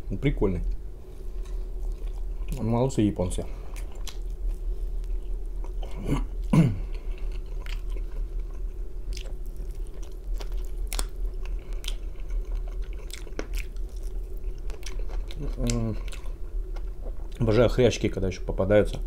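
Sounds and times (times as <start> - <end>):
chewing and crunching: 1.4 - 2.7, 3.5 - 17.6.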